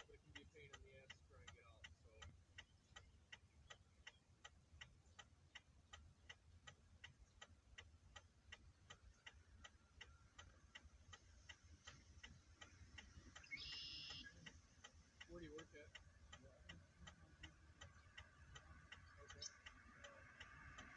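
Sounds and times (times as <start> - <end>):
hazard light flasher ticking: 0.0 - 20.9.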